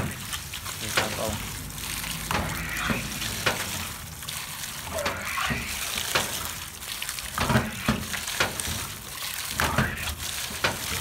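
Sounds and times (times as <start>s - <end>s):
water splashing onto plastic toys: 0.0s - 11.0s.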